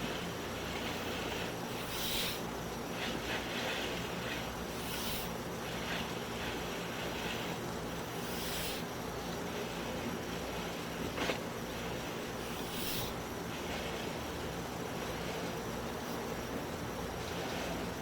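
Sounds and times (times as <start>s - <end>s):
low hum and hiss: 0.0s - 18.0s.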